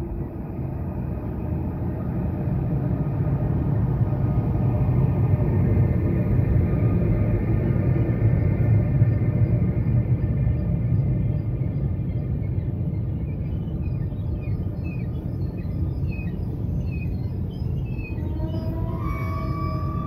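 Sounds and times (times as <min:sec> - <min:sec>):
rising whine: 0:00.0 - 0:20.0
train wheels rumbling on rail: 0:00.0 - 0:20.0.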